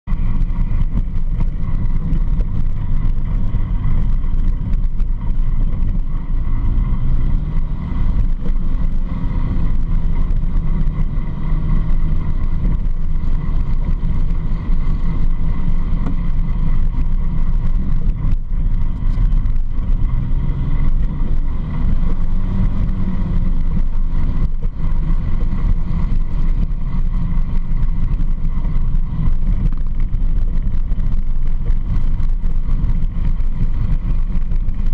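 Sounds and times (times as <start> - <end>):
quad engine running: 0.0 - 34.9.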